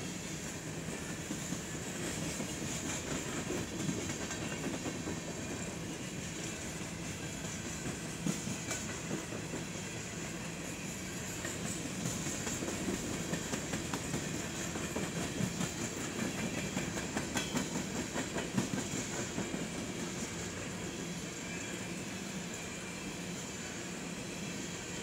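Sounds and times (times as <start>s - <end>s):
freight train wheels clicking: 0.0s - 21.7s
train rumble and hiss: 0.0s - 25.0s.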